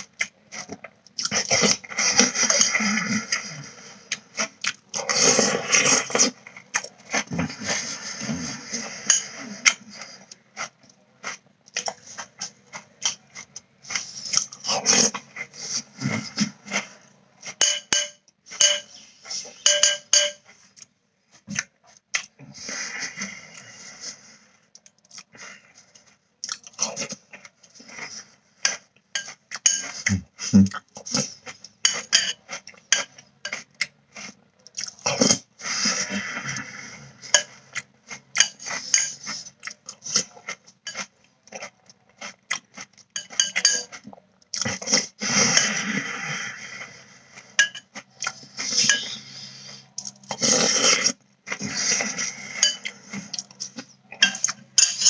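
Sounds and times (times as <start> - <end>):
man chewing crunchy cereal: 0.0 - 17.6, 20.5 - 55.0.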